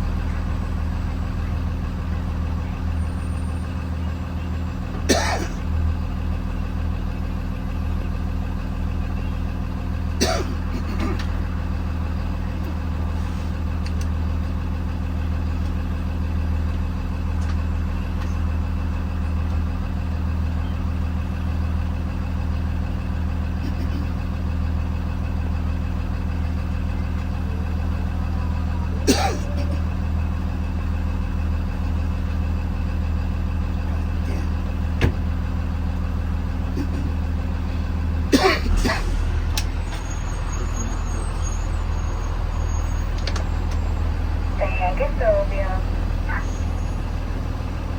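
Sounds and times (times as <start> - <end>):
bus engine running: 0.0 - 47.9.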